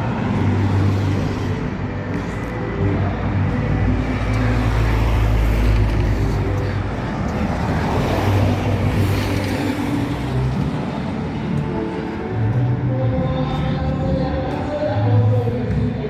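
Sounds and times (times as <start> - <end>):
road noise: 0.0 - 16.0
vehicle engine humming: 0.0 - 16.0.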